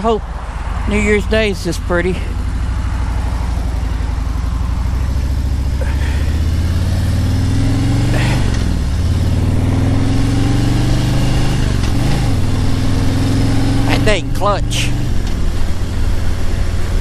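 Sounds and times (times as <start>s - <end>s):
motorcycle engine accelerating: 0.6s - 17.0s.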